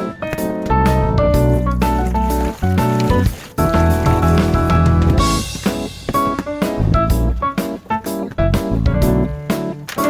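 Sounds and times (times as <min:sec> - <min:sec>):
piano-led instrumental music: 0:00.0 - 0:10.0.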